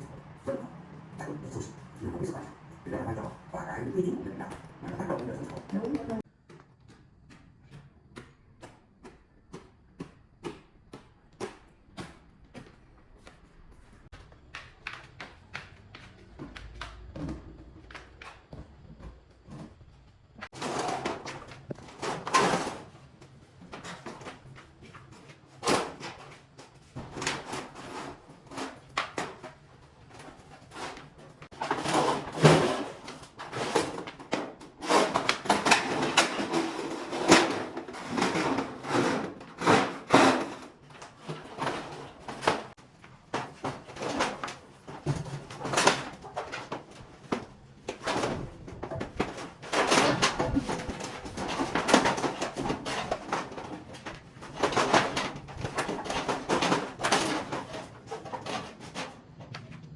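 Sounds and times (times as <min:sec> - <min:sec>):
things knocking and clattering: 0:04.0 - 0:59.9.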